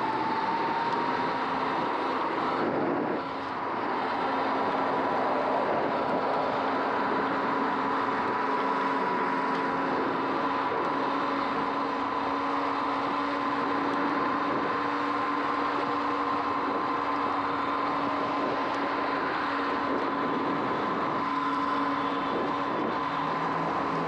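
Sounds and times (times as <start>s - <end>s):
electric motor whine: 0.0s - 24.0s
tyre and wind noise: 0.0s - 24.0s.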